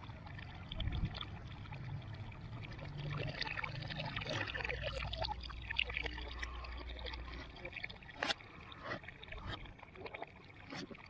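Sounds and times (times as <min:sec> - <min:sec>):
water pouring and splashing into tub: 0:00.0 - 0:11.0.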